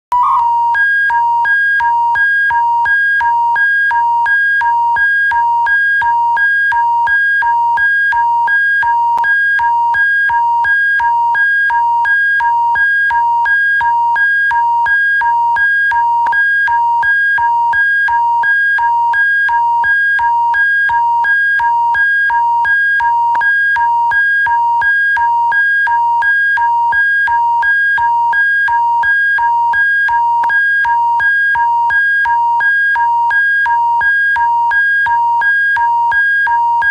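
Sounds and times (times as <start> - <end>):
rapid electronic alert beeps: 0.1 - 36.9.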